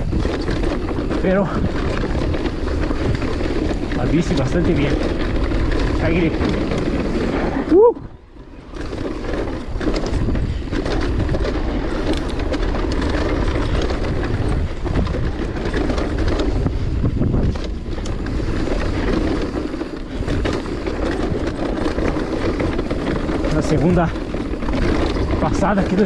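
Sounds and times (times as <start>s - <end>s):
bike clicks and rattles: 0.0s - 26.0s
bike tyres rushing on dirt: 0.0s - 26.0s
wind buffeting microphone: 0.0s - 26.0s.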